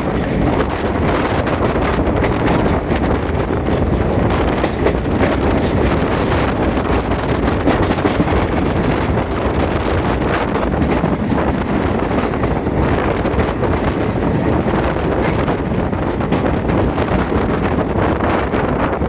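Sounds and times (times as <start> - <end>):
train rumbling at speed: 0.0 - 19.0
wind buffeting microphone: 0.0 - 19.0.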